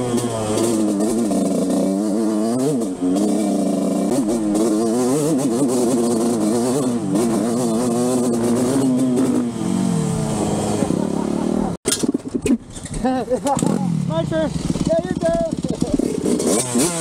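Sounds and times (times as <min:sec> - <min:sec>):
dirt bike engine revving: 0:00.0 - 0:12.6, 0:13.3 - 0:17.0.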